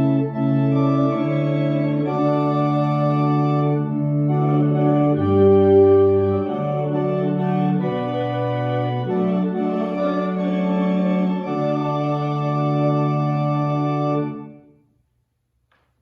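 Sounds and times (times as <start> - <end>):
church organ playing chords: 0.0 - 14.7.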